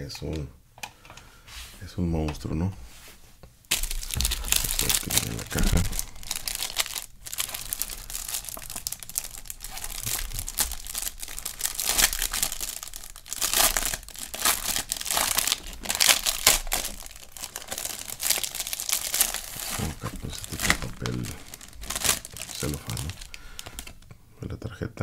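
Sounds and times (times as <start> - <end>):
plastic bag crinkling: 3.7 - 24.1.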